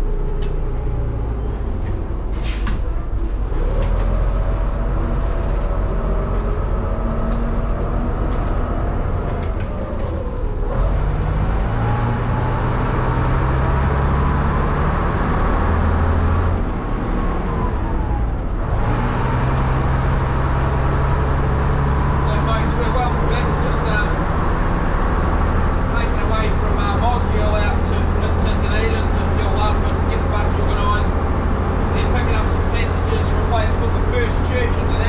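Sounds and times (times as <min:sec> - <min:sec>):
bus diesel engine under load: 0:00.0 - 0:35.0.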